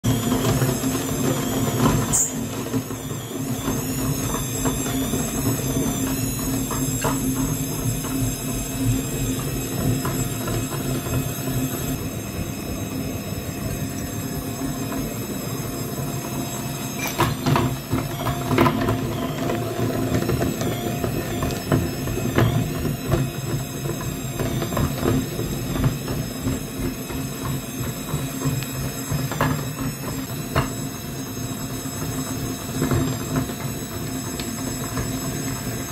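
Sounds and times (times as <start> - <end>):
meat grinder running: 0.0 - 35.9.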